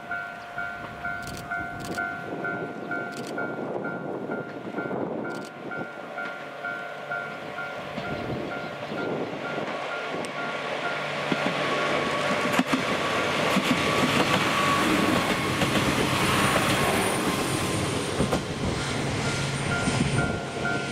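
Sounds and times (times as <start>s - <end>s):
train wheels clicking on rail joints: 0.8s - 6.8s, 7.8s - 20.9s.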